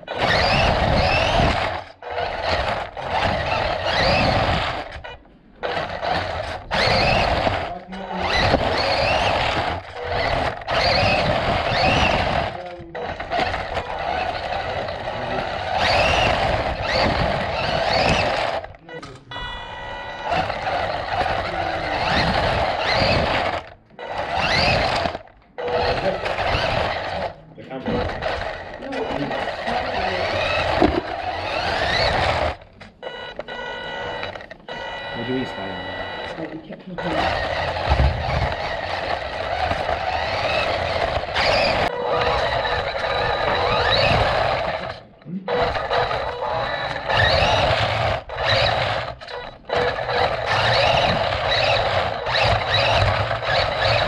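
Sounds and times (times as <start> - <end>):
electric rc car motor whining: 0.0 - 18.8, 19.4 - 54.0
tyres on concrete: 0.0 - 19.3, 20.0 - 54.0.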